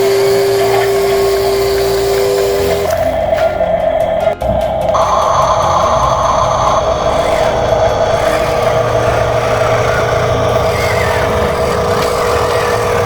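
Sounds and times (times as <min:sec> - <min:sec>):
electric motors whining: 0:00.0 - 0:13.0
low hum: 0:00.1 - 0:13.0.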